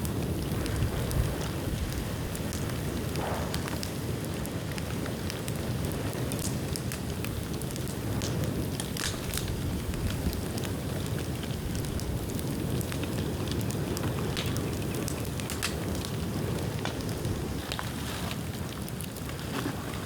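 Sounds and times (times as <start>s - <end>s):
low rush of flame: 0.0s - 17.6s
crackles and pops: 0.0s - 19.8s.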